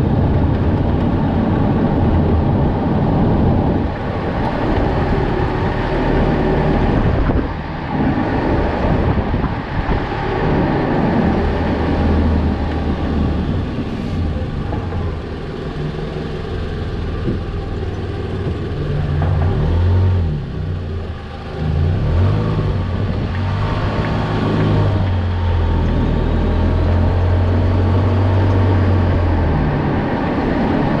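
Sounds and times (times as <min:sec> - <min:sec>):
broad rush of vehicle noise: 0:00.0 - 0:31.0
car engine humming: 0:00.0 - 0:31.0.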